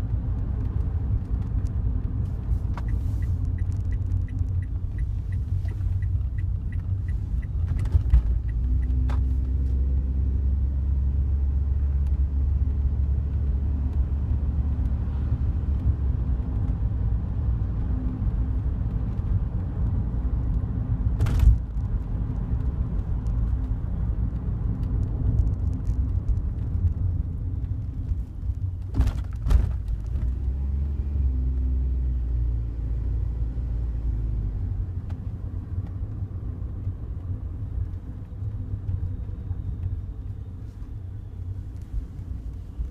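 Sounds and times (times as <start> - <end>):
road and engine rumble: 0.0 - 42.9.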